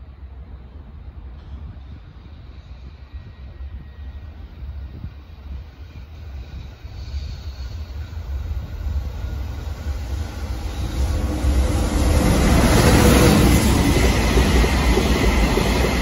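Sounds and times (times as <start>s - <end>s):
freight train rumble: 0.0s - 16.0s.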